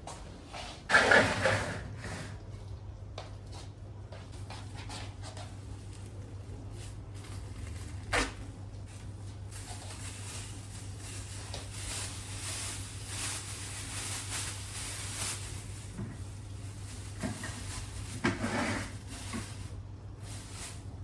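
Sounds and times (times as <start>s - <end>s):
low steady hum: 1.8s - 21.0s.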